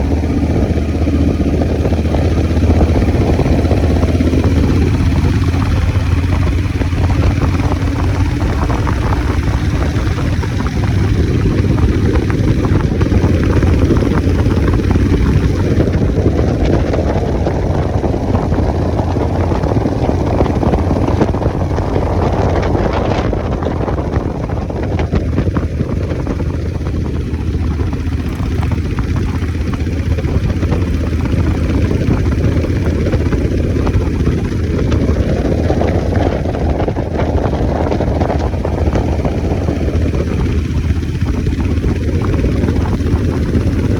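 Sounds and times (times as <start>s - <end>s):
motorcycle engine running: 0.0s - 43.9s
wind on microphone: 0.0s - 43.9s.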